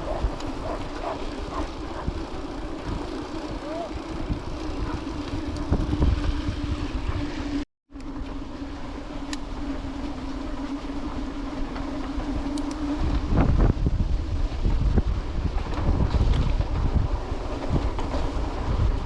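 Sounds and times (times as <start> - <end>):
bike hum: 0.0 - 19.0
wind rumble on microphone: 0.0 - 19.0.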